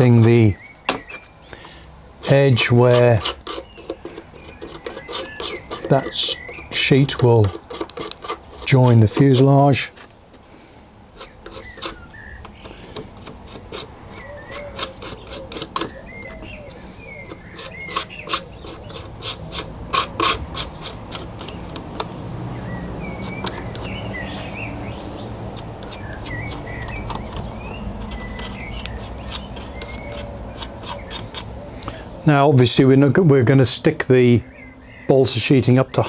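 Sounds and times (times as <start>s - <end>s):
spatula scraping and clicking: 0.0s - 10.4s, 11.1s - 22.2s, 23.0s - 32.0s
birds chirping: 0.0s - 36.0s.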